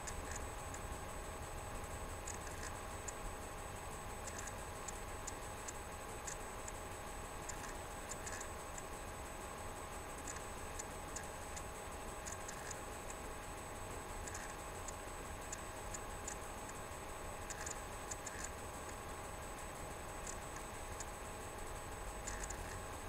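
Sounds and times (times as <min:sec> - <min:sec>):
steady room hum: 0:00.0 - 0:23.0.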